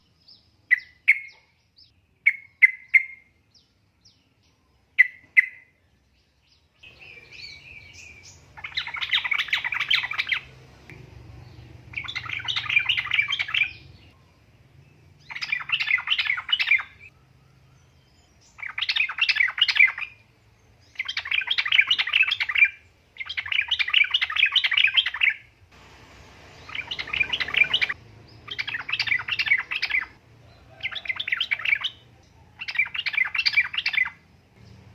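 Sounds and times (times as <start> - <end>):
bird chattering song: 0.0 - 5.9, 6.5 - 25.5, 26.2 - 34.9.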